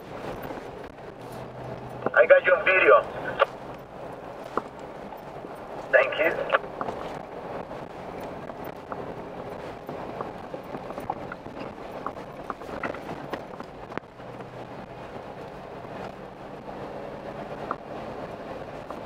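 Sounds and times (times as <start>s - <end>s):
engine and tyre drone: 0.0s - 19.0s.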